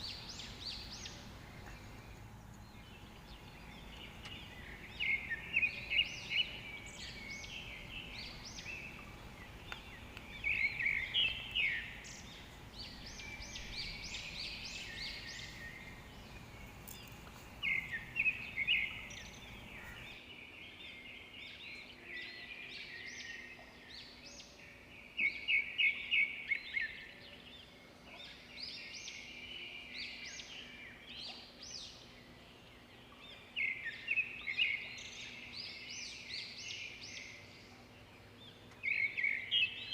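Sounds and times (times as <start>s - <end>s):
faint background hiss: 0.0s - 39.9s
small birds chirping: 0.0s - 39.9s.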